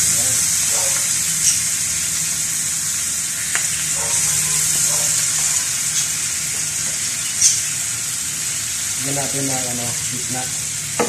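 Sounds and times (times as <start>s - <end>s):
meat sizzling on hot plate: 0.0s - 11.0s.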